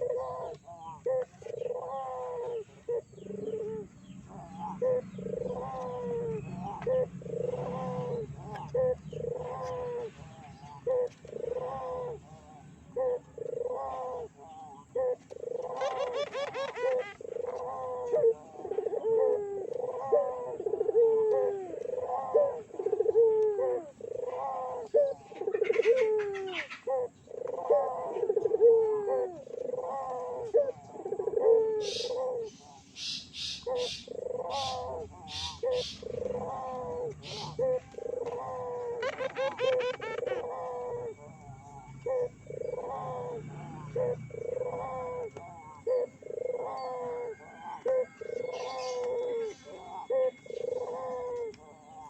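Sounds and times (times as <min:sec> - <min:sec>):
doves cooing: 0:00.0 - 0:52.0.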